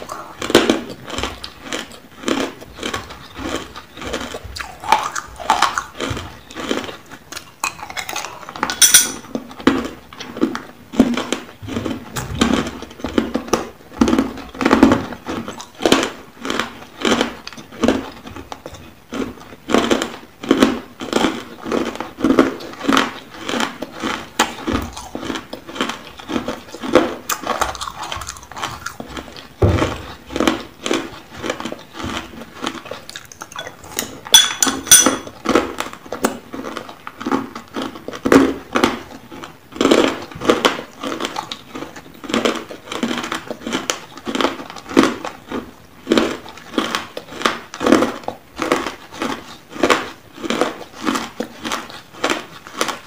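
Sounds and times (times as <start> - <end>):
ice cubes crunching: 0.0 - 53.0.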